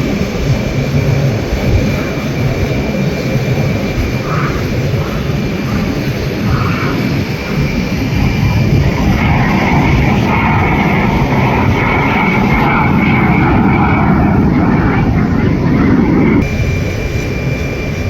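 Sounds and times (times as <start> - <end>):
jet aircraft flying overhead: 0.0 - 18.0.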